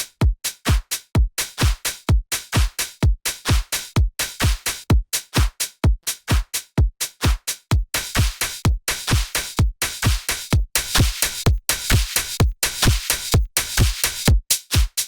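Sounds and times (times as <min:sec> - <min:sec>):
electronic dance drum loop: 0:00.0 - 0:15.0.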